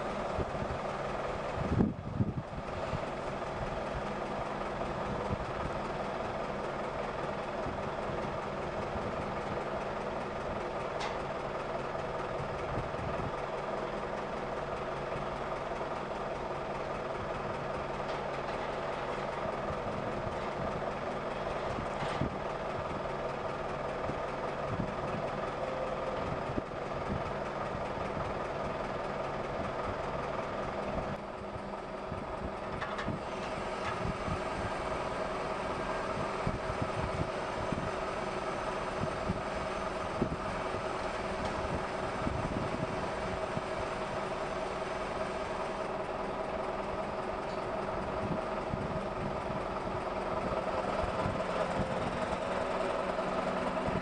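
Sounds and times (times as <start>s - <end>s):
crane engine running: 0.0s - 54.0s.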